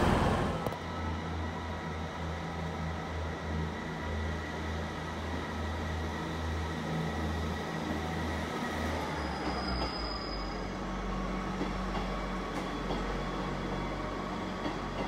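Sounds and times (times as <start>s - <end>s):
train mechanical hum: 0.0s - 15.0s.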